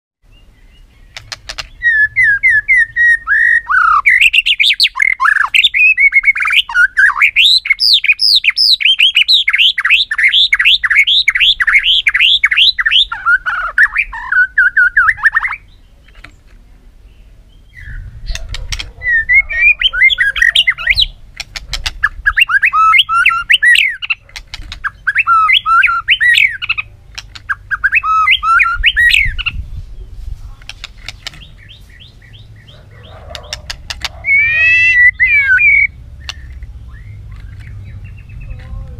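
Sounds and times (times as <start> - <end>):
bird singing whistled notes: 0.2 - 15.9, 17.1 - 18.4, 19.0 - 21.2, 22.0 - 24.2, 24.8 - 29.7, 31.4 - 38.6.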